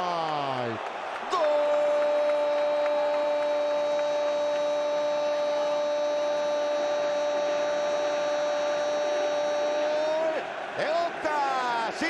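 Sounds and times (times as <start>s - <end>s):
man shouting drawn-out goal cry: 0.0s - 12.0s.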